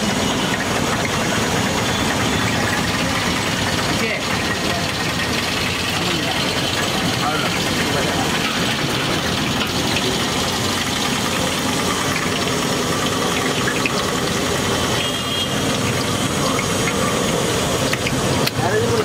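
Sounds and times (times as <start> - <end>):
deep-frying sizzle: 0.0 - 19.0.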